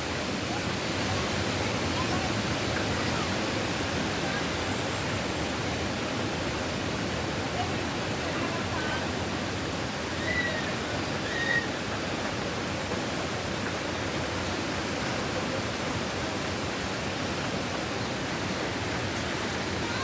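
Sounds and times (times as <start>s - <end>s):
strong wind rushing through trees: 0.0s - 20.0s.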